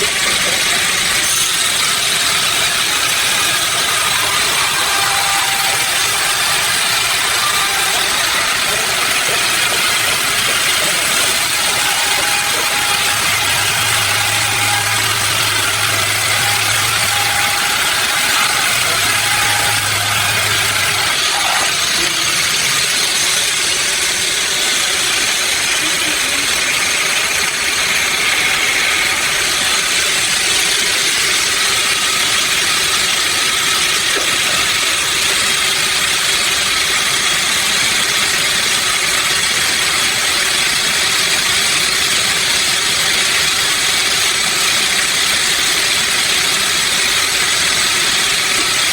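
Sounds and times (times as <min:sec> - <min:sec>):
sawmill machinery running: 0:00.0 - 0:48.9.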